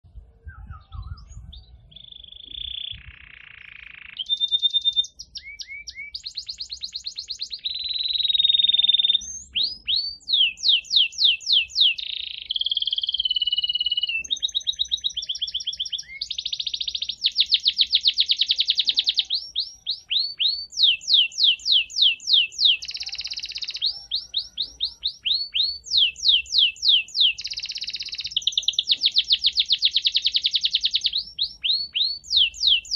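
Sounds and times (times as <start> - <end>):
canary singing: 0.6 - 32.9.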